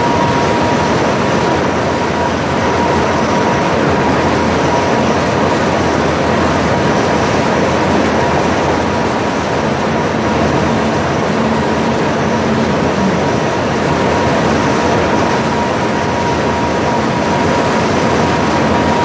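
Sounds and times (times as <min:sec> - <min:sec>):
thin steady machine whine: 0:00.0 - 0:19.0.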